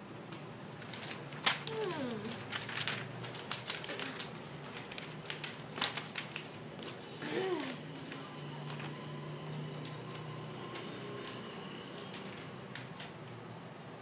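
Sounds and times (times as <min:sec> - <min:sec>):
paper sheets rustling: 0:00.7 - 0:13.2.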